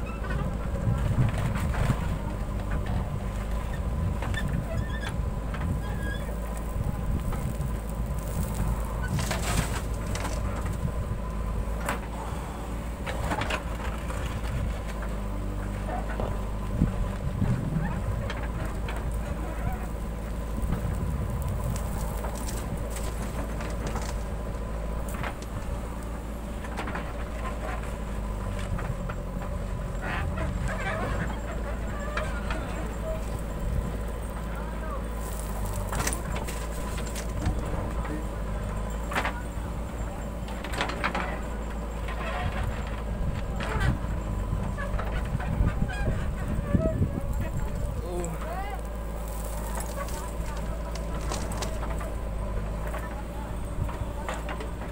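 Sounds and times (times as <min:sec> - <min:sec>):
diesel engine running under load: 0:00.0 - 0:54.9
loose earth pattering: 0:00.0 - 0:54.9.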